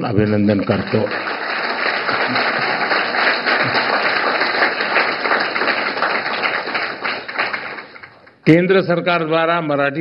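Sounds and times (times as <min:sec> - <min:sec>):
audience applauding: 0:00.3 - 0:08.4.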